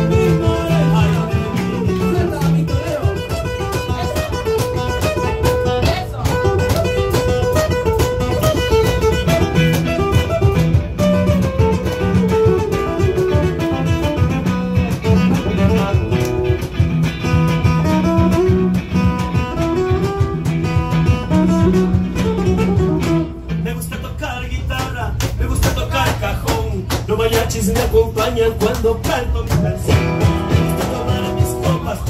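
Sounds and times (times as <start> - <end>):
acoustic-electric guitar: 0.0 - 32.0
amplified electric guitar: 0.0 - 32.0.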